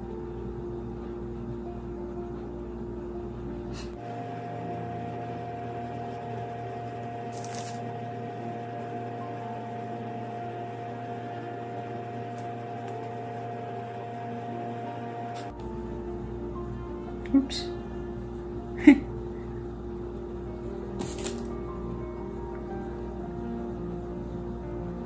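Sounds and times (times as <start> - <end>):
appliance mechanical hum: 0.0 - 25.0.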